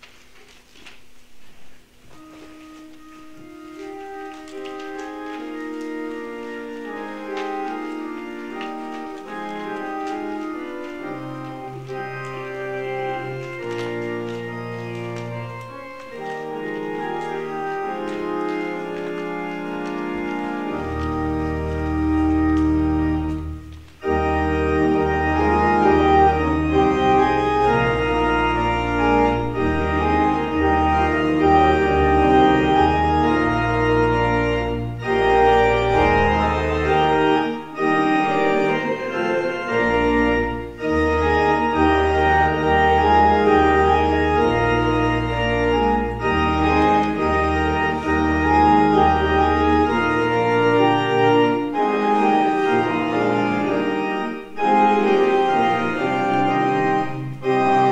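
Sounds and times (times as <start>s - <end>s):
church organ playing chords: 0.0s - 57.9s.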